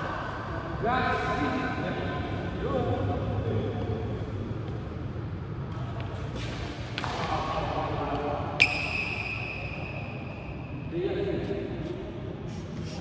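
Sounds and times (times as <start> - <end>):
faint echoing voices: 0.0 - 13.0.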